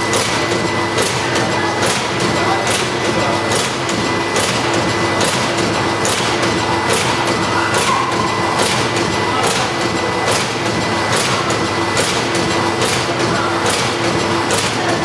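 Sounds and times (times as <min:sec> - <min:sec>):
packing machine running: 0:00.0 - 0:15.0.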